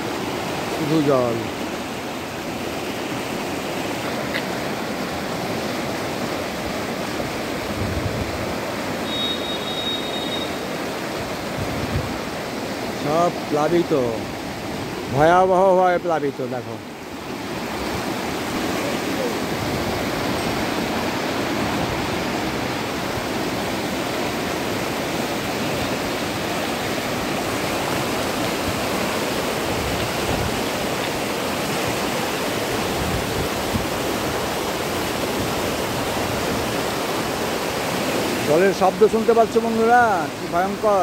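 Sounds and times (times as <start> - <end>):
floodwater roaring: 0.0 - 41.0.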